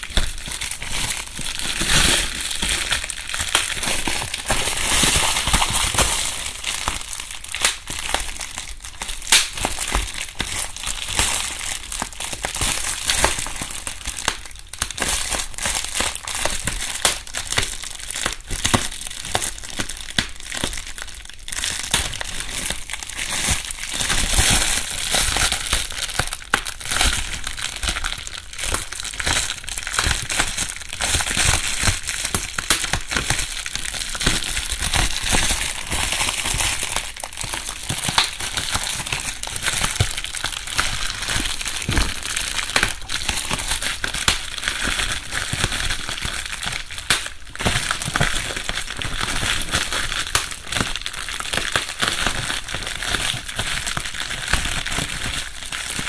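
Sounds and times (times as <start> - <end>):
bubble wrap crackling and popping: 0.0 - 56.0.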